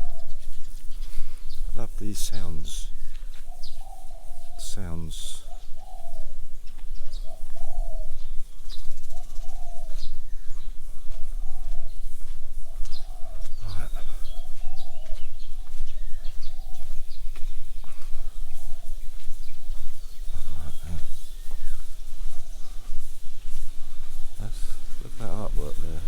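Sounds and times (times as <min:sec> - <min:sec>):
dove cooing: 0:00.0 - 0:26.0
small birds chirping: 0:00.0 - 0:26.0.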